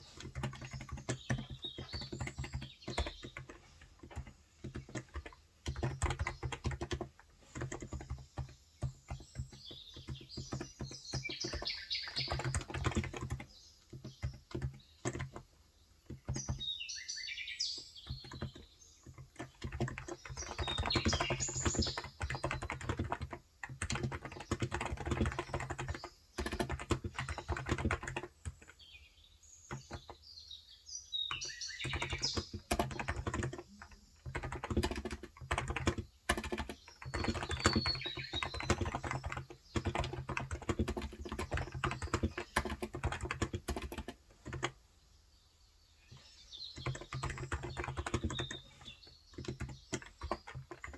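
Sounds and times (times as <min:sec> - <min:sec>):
fast keyboard typing: 0:00.0 - 0:16.8, 0:17.6 - 0:28.9, 0:29.7 - 0:30.2, 0:31.3 - 0:44.8, 0:46.1 - 0:50.9
birds chirping: 0:00.0 - 0:50.9.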